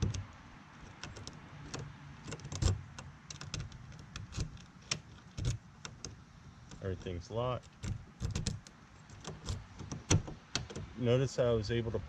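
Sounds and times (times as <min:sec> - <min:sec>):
key turning in door lock: 0:00.0 - 0:11.0.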